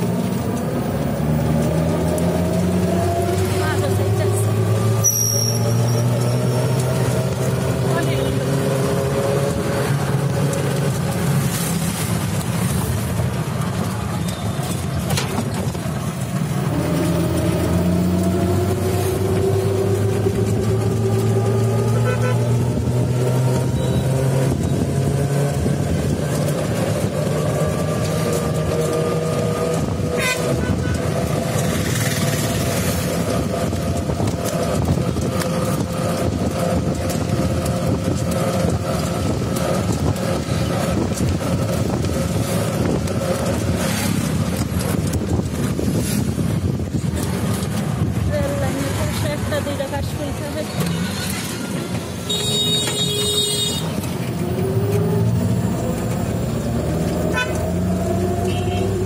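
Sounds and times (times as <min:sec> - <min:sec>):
vehicle body rattling: 0:00.0 - 0:21.9, 0:22.6 - 0:57.8
auto-rickshaw motor whining: 0:00.0 - 0:59.0
road and wind noise: 0:00.0 - 0:59.0.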